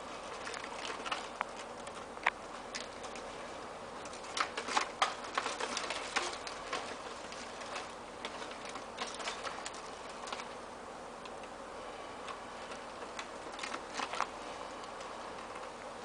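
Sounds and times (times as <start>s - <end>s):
light clicks and crackles: 0.0s - 16.0s
steady background hiss: 0.0s - 16.0s.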